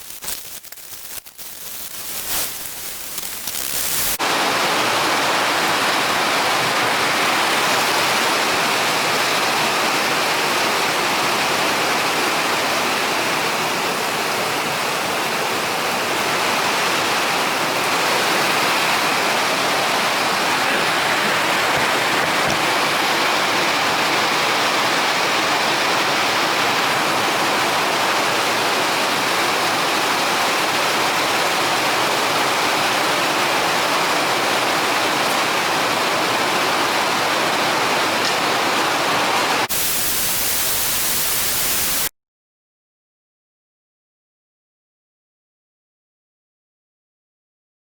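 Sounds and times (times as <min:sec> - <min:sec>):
heavy rain hissing: 0:00.0 - 0:13.9, 0:15.8 - 0:42.1.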